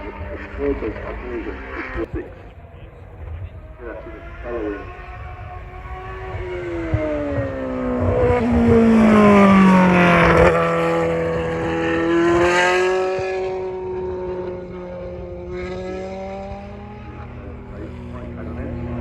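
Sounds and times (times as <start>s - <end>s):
racing car engine passing by: 0.0s - 19.0s.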